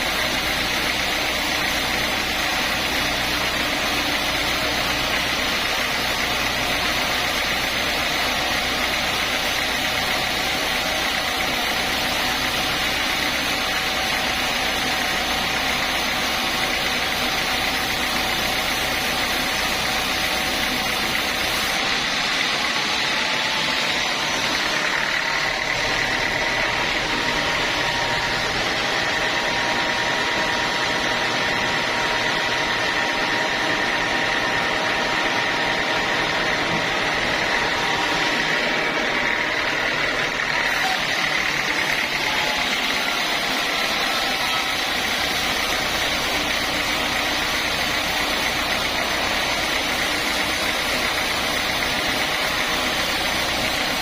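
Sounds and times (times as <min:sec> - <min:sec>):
sawmill machinery rumble: 0:00.0 - 0:54.0
steady high whine: 0:00.0 - 0:54.0.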